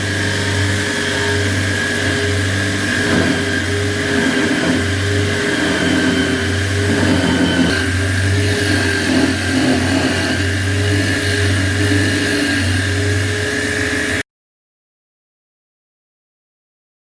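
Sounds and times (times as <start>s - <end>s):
electric drill motor whining: 0.0s - 14.2s.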